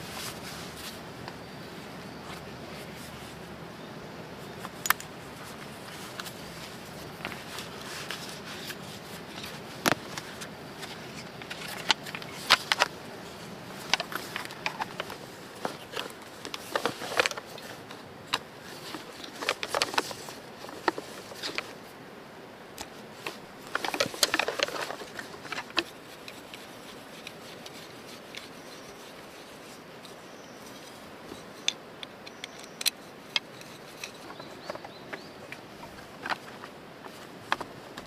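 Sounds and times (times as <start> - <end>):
faint outdoor hiss: 0.0 - 38.0
small objects handled: 4.6 - 21.8, 22.8 - 38.0.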